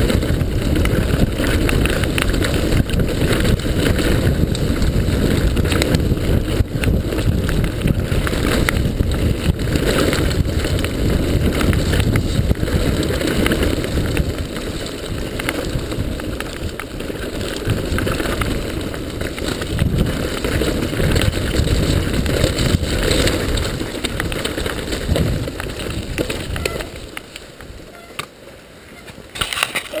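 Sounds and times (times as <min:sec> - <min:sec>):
wind buffeting: 0:00.0 - 0:28.0
tyre rumble: 0:00.0 - 0:28.2
bike rattling and knocking: 0:00.0 - 0:28.4, 0:29.0 - 0:30.0.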